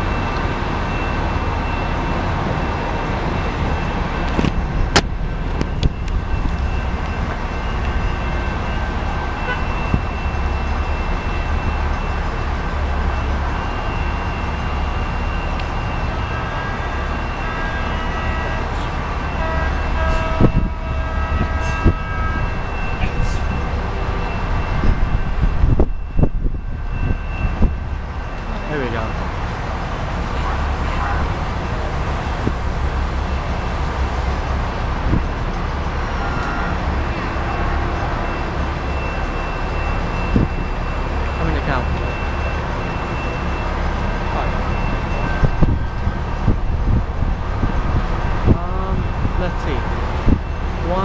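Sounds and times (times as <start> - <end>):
train low rumble: 0.0 - 51.0.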